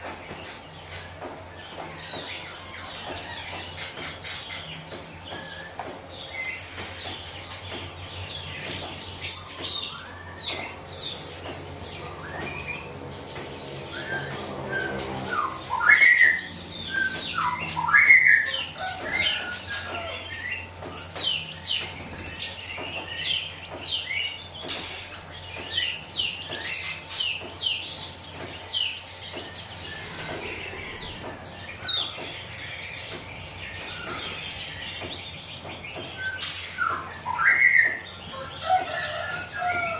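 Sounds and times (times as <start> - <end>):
bird chirping: 0.3 - 39.9.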